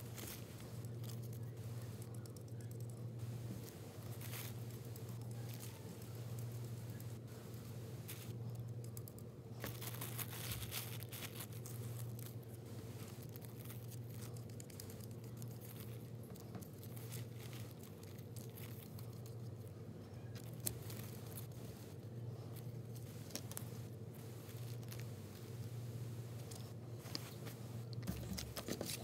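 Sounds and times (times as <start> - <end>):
paper crinkling and rustling: 0.0 - 29.0
steady low hum: 0.0 - 29.0.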